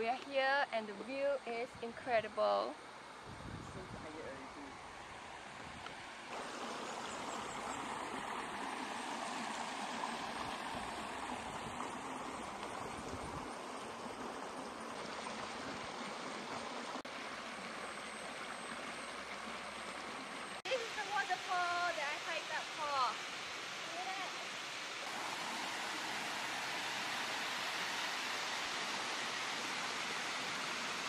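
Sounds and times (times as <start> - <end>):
stream water rushing over rock: 4.1 - 31.0.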